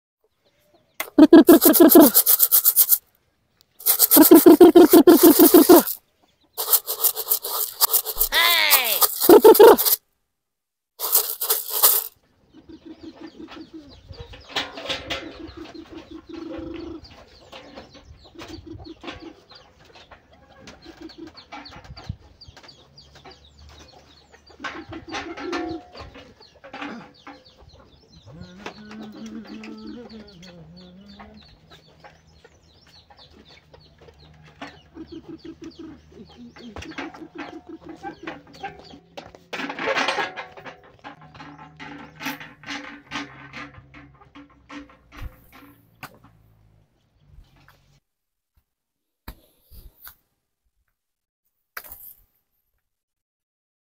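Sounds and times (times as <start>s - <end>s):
chickens clucking: 0.3s - 3.0s, 3.6s - 10.0s, 11.0s - 48.0s.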